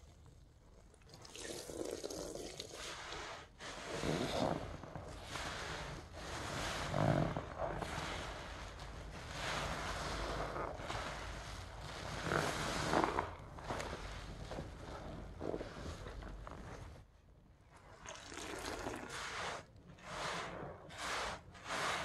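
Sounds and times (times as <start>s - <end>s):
soapy sponge squelching: 0.0s - 17.0s, 17.8s - 22.0s.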